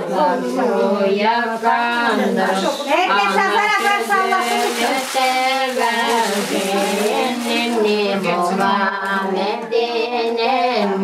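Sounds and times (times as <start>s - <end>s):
voices singing slow melody: 0.0s - 11.0s.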